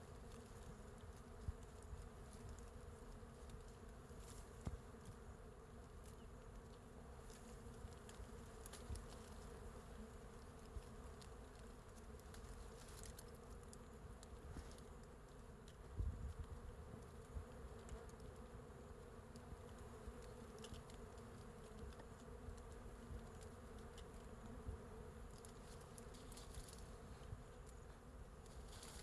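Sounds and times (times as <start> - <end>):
faint ticks: 5.8 - 29.0.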